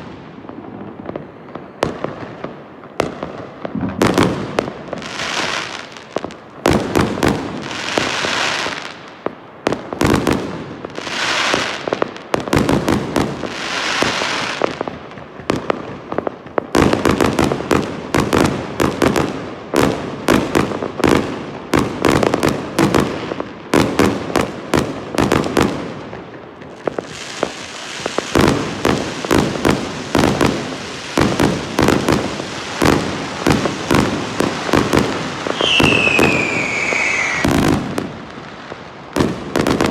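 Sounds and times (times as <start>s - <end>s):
fireworks bangs: 0.0s - 39.9s
fireworks crackling and hissing: 0.0s - 39.9s.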